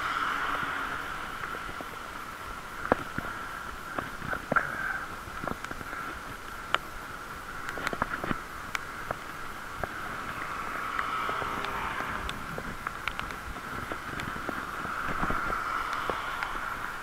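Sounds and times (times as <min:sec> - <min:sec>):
bicycle riding noise hiss: 0:00.0 - 0:17.0.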